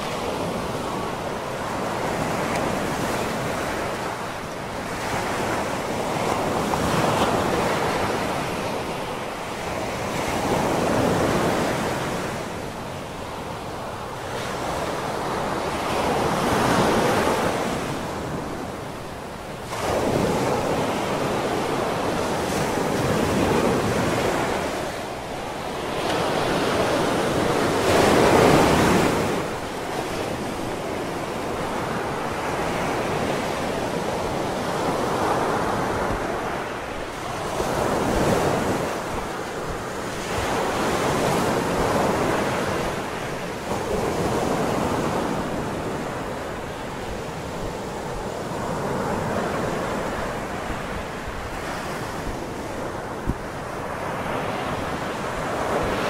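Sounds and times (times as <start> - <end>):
ocean surf breaking on shore: 0.0 - 56.0.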